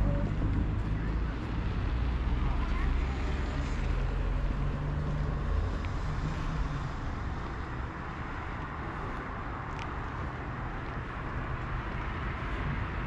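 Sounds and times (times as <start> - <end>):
outdoor street hum: 0.0 - 13.0.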